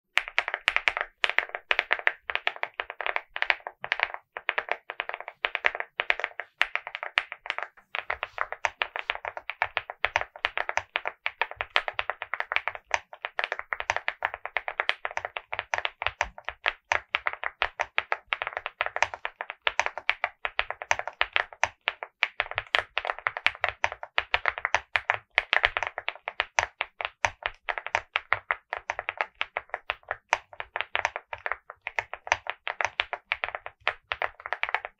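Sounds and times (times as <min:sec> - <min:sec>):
fast typing on mechanical keyboard: 0:00.2 - 0:34.9.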